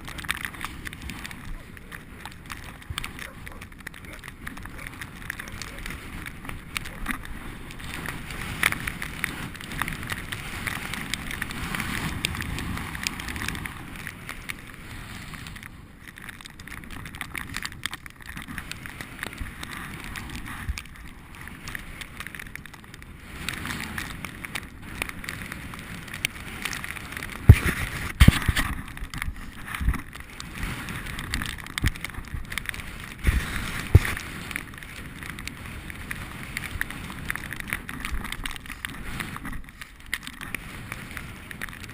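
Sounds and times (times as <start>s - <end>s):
bicycle tyres on snow: 0.0s - 41.9s
wind on microphone: 0.0s - 41.9s.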